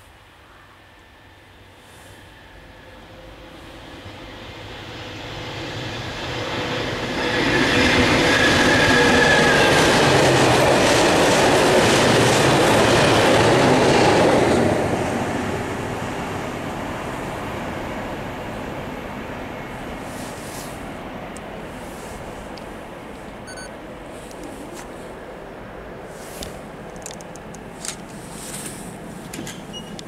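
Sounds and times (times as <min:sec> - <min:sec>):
diesel train passing: 0:00.1 - 0:30.0.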